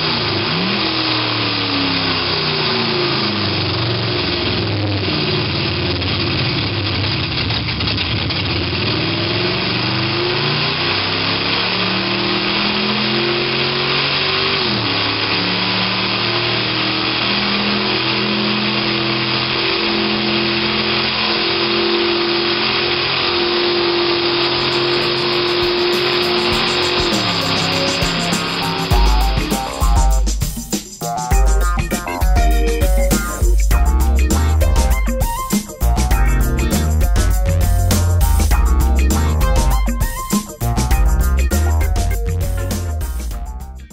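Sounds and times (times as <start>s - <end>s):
simulated sports car engine revving: 0.0s - 35.2s.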